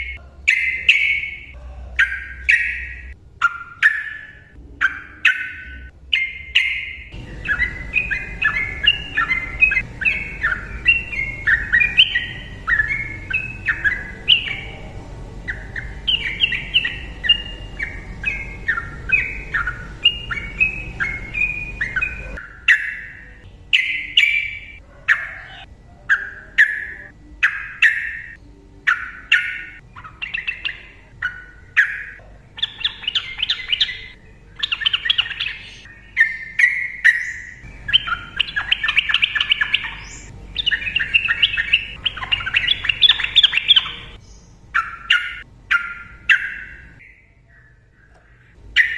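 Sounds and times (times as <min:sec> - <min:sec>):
bird singing chattering notes: 0:00.0 - 0:48.9
low steady hum: 0:00.0 - 0:48.9.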